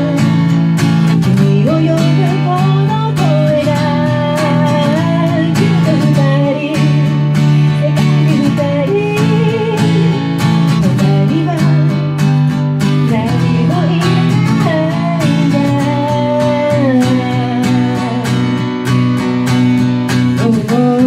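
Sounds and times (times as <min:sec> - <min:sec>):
person singing: 0:00.0 - 0:19.2, 0:20.1 - 0:21.0
strummed acoustic guitar: 0:00.0 - 0:21.0.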